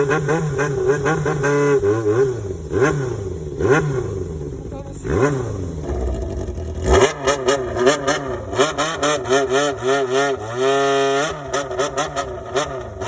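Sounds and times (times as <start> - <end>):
motorcycle throttle blips: 0.0 - 13.0.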